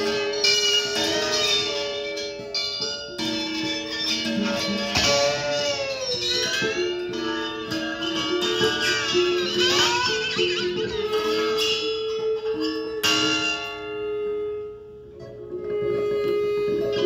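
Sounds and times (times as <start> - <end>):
lap steel guitar notes bending: 0.0 - 17.0.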